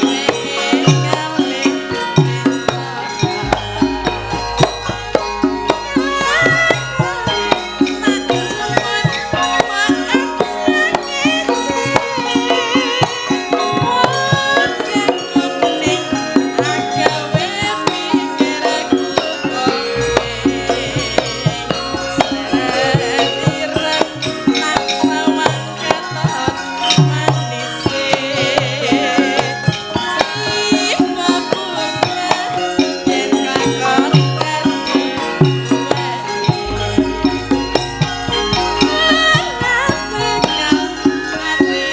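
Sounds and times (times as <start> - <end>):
gamelan music: 0.0 - 41.9
hand drum beat: 0.0 - 41.9.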